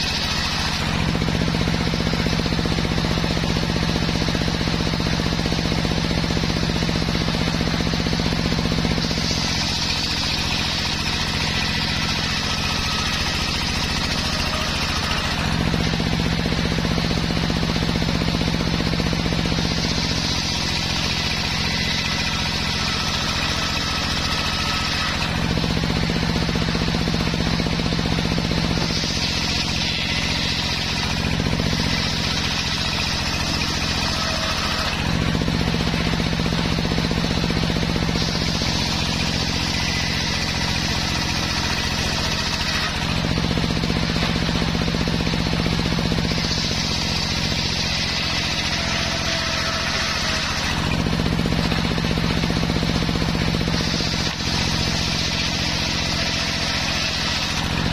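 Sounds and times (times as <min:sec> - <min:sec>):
circular saw humming: 0:00.0 - 0:57.9.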